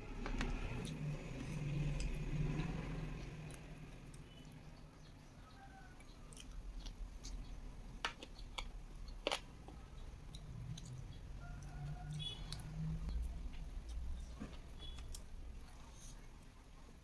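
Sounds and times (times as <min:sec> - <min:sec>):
chewing fried chicken: 0:00.1 - 0:16.6.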